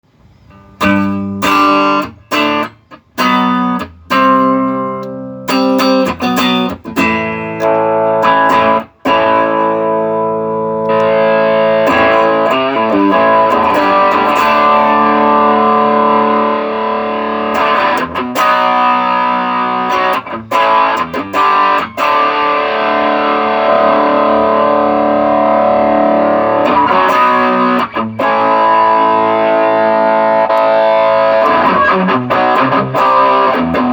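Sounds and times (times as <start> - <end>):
overdriven electric guitar chords: 0.1 - 33.9.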